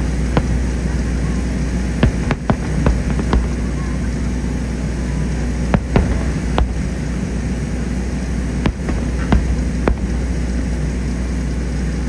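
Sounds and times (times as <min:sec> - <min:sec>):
low rumble: 0:00.0 - 0:11.8
distant fireworks bangs: 0:00.0 - 0:12.0.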